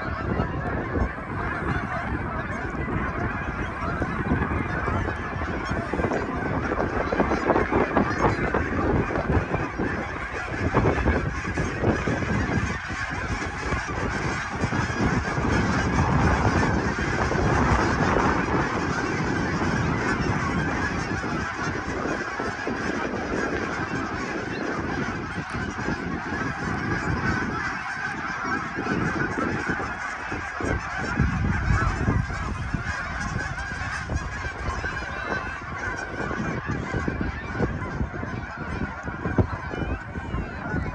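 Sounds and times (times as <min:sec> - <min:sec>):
waterfowl honking in flight: 0:00.0 - 0:40.9.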